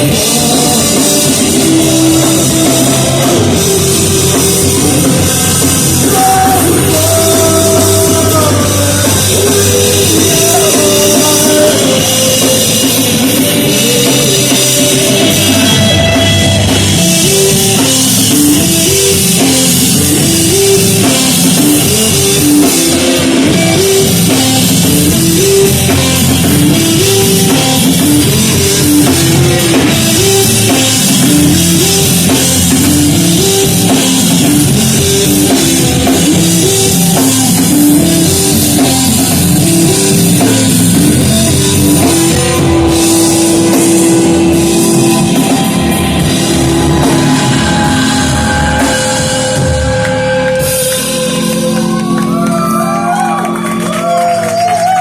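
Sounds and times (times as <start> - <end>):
rock music with drums and guitar: 0.0 - 55.0.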